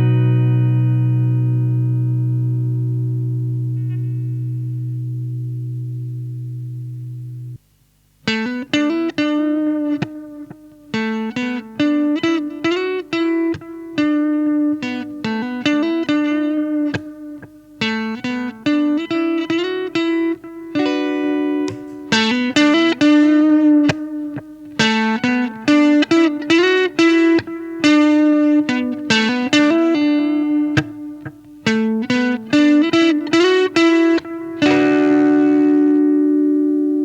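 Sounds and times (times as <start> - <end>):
electric guitar with overdrive: 0.0 - 37.0.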